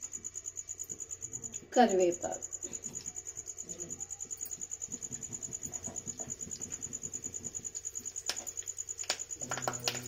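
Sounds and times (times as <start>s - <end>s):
spices sizzling and popping in oil: 0.0s - 10.0s.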